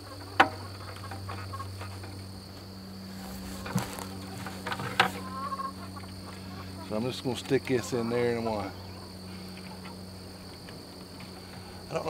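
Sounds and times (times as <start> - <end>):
high insect trill: 0.0 - 12.0
low hum: 0.0 - 12.0.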